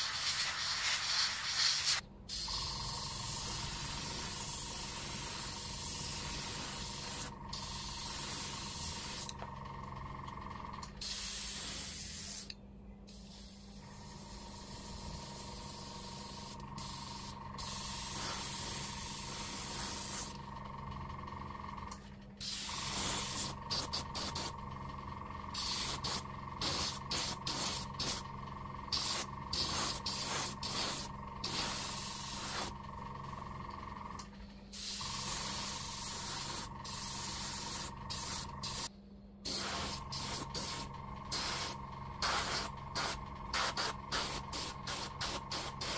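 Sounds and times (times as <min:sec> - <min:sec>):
airbrush hissing: 0:00.0 - 0:09.3, 0:11.0 - 0:20.4, 0:22.4 - 0:24.6, 0:25.6 - 0:28.2, 0:28.9 - 0:32.8, 0:34.8 - 0:45.9
steady hum: 0:00.0 - 0:45.9.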